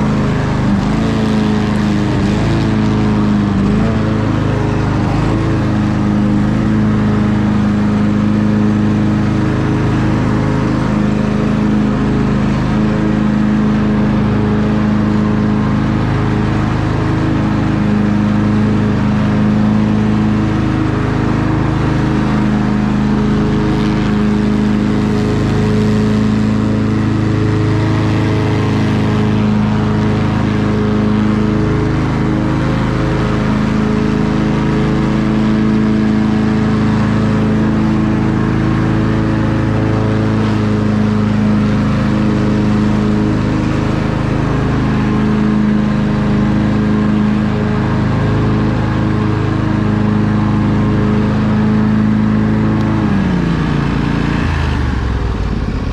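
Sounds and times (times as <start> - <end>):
riding mower engine running: 0.0 - 55.9.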